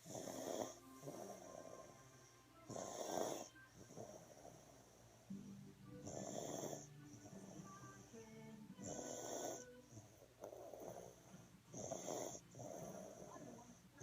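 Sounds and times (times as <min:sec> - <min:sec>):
baby snoring: 0:00.0 - 0:13.6.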